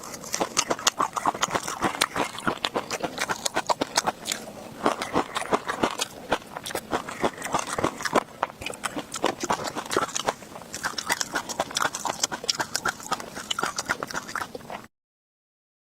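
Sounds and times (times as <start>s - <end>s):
crunchy chewing: 0.0s - 14.9s.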